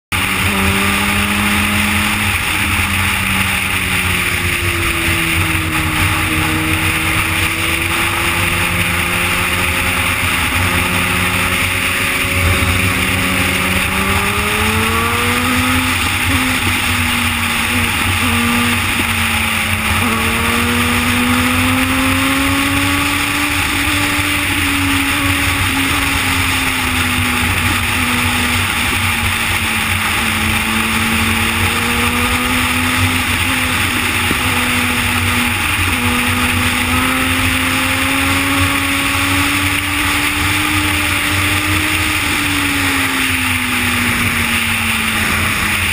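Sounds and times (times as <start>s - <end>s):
motorcycle engine cruising: 0.0s - 45.9s.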